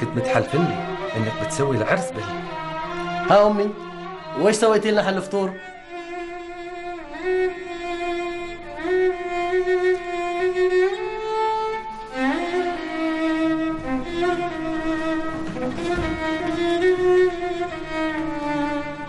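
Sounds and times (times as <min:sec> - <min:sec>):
slow violin music: 0:00.0 - 0:19.0.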